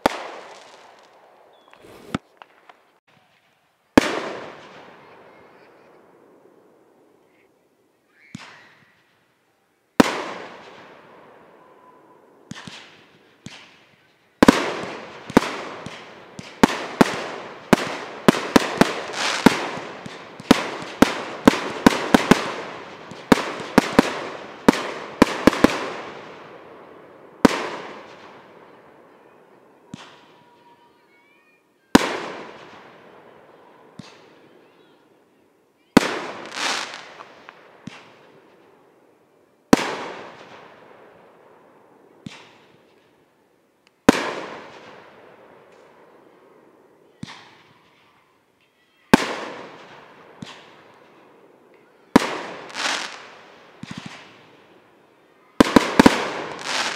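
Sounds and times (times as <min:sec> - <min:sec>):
fireworks bursting with bangs: 0:00.0 - 0:06.4, 0:08.3 - 0:09.2, 0:10.0 - 0:11.4, 0:12.4 - 0:35.2, 0:35.8 - 0:38.7, 0:39.7 - 0:43.1, 0:44.0 - 0:46.2, 0:47.1 - 0:48.2, 0:48.9 - 0:54.8, 0:55.6 - 0:56.9.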